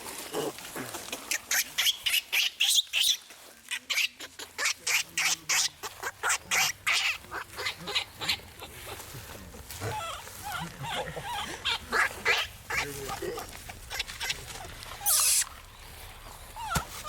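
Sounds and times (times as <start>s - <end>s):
monkeys squealing: 1.3s - 9.1s, 9.8s - 15.6s, 16.6s - 17.0s.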